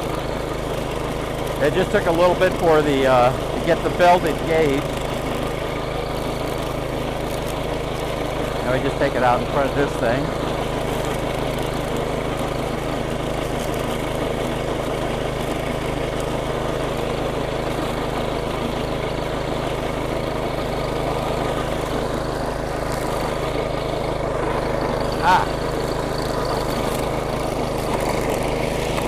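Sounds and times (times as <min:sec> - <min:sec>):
string trimmer engine running: 0:00.0 - 0:29.0.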